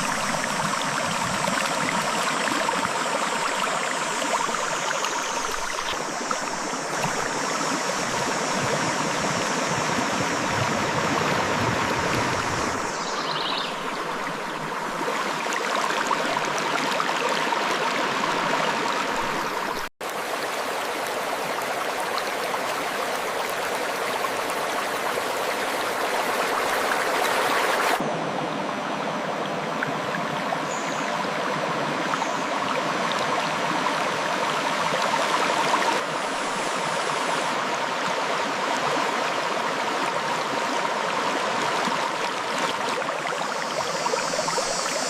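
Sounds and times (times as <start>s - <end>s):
river water splashing over rocks: 0.0s - 28.0s, 28.6s - 45.0s.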